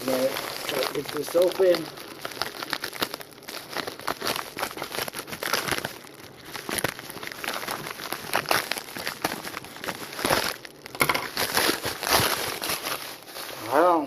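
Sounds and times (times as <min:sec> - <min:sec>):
package wrapping crinkling: 0:00.0 - 0:14.0.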